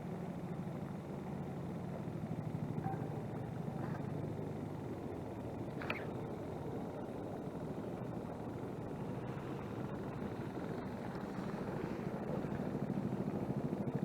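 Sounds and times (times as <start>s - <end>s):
engine drone with fluttering pulse: 0.0s - 14.0s.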